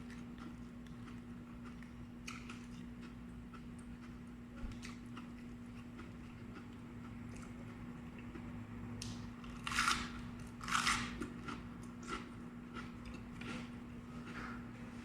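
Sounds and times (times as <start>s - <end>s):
crunchy vegetables chewing: 0.0s - 15.0s
steady low hum: 0.0s - 15.0s.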